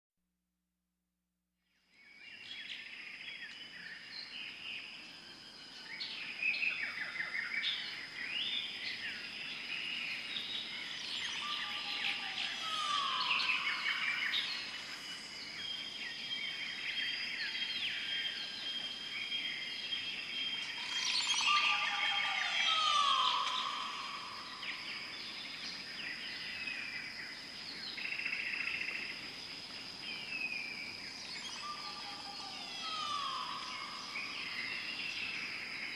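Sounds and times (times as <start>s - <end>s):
insect drone: 1.9s - 35.9s
birds calling and whistling: 5.7s - 29.0s, 30.0s - 35.9s.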